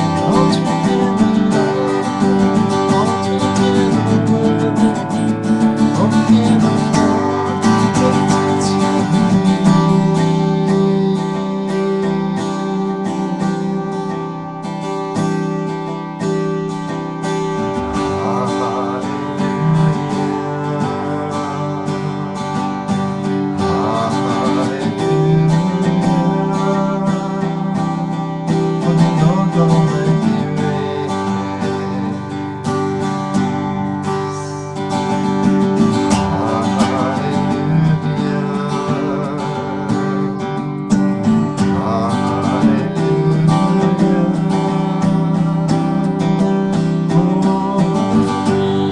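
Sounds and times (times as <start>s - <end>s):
acoustic guitar strummed: 0.0s - 48.9s.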